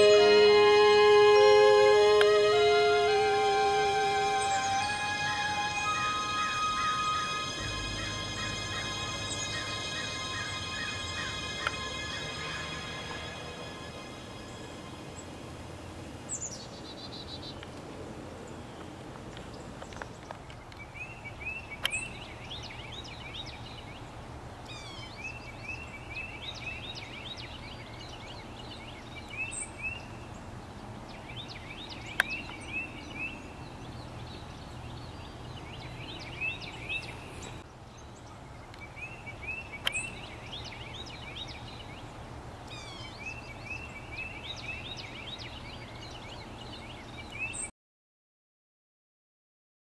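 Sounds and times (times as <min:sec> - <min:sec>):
songbird singing: 0:00.0 - 0:17.8, 0:18.4 - 0:47.7.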